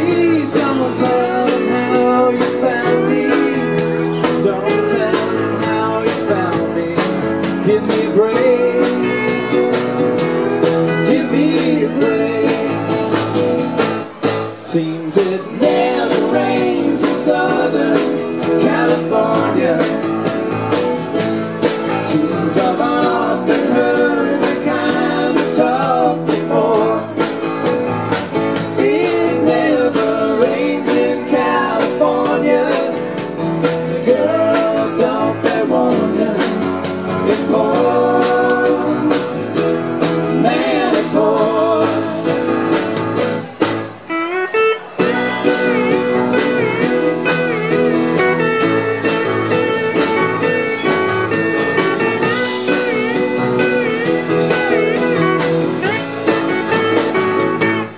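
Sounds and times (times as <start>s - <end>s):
live band playing soft rock: 0.0s - 57.9s.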